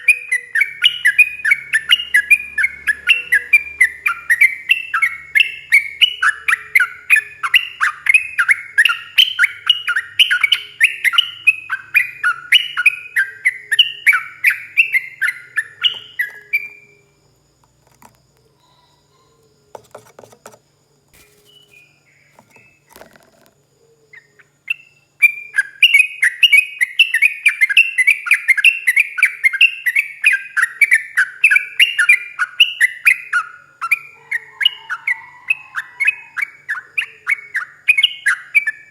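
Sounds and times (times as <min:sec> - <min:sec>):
bulbul singing rolling song: 0:00.0 - 0:20.0, 0:20.6 - 0:38.9
faint bird calls: 0:00.0 - 0:20.3, 0:21.1 - 0:38.9.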